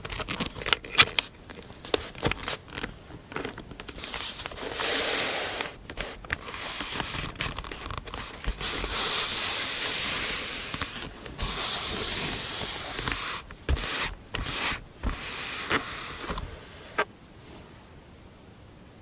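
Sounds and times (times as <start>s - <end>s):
paper taps and crinkles: 0.0s - 4.8s, 5.6s - 16.5s
paper rubbing and sliding: 0.0s - 17.1s.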